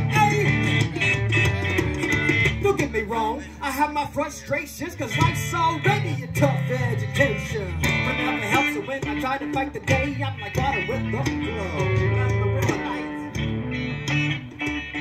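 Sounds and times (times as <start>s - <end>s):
guitar: 0.0s - 15.0s
live band playing: 0.0s - 15.0s.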